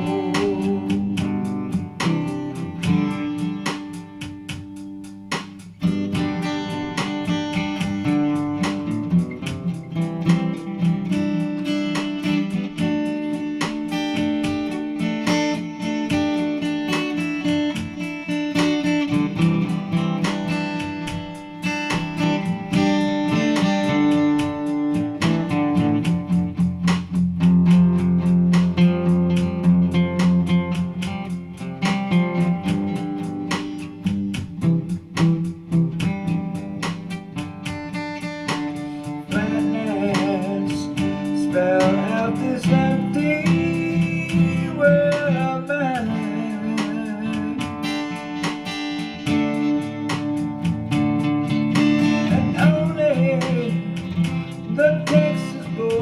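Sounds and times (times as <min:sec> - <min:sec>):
guitar strumming chords: 0:00.0 - 0:56.0
wavering bending guitar tone: 0:00.0 - 0:56.0.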